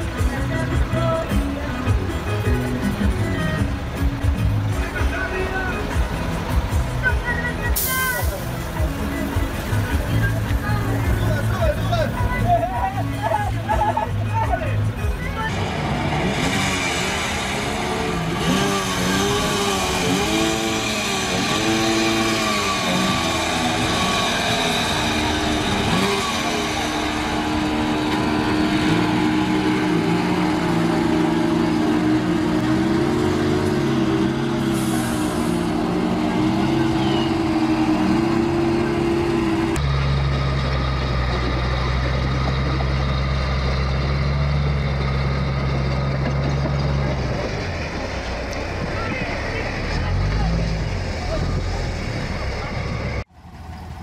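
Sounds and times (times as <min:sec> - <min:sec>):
engines revving: 0:00.0 - 0:54.0
steady engine rumble: 0:00.0 - 0:54.0
outboard motors humming: 0:08.6 - 0:54.0.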